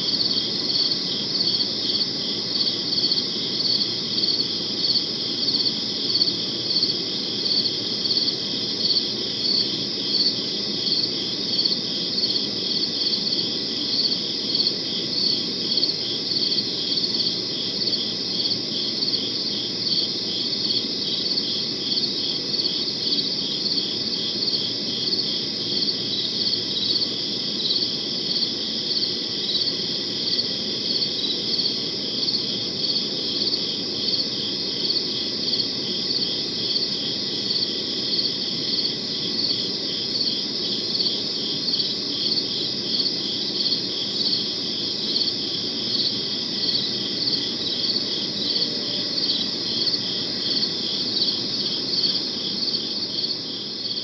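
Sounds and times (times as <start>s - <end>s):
crickets chirping: 0.0s - 54.0s
low background noise: 0.0s - 54.0s.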